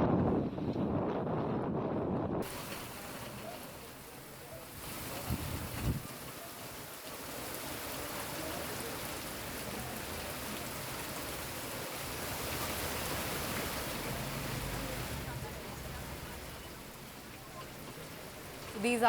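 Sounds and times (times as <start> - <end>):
heavy rain falling: 2.4 - 19.0.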